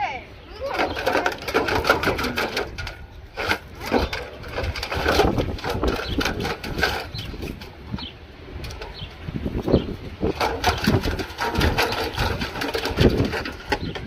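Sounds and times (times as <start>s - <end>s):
wind on microphone: 0.3s - 14.0s.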